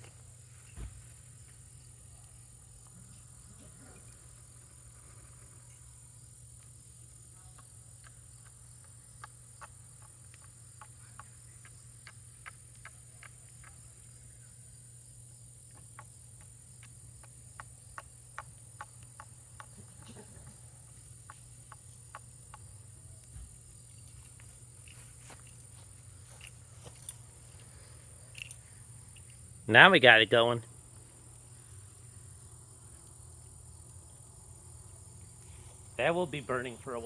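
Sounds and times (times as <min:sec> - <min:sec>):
campfire crackling and popping: 0:00.0 - 0:27.7, 0:29.0 - 0:37.0
high insect drone: 0:00.0 - 0:37.0.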